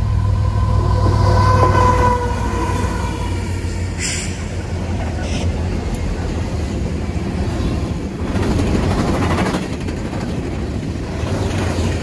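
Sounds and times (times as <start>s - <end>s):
freight train rolling past: 0.0s - 12.0s.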